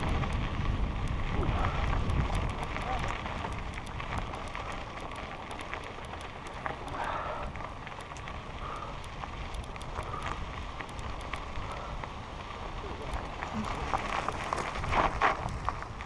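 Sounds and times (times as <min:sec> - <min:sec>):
bike tyres crackling on gravel: 0:00.0 - 0:16.0
wind rumbling on microphone: 0:00.0 - 0:16.0.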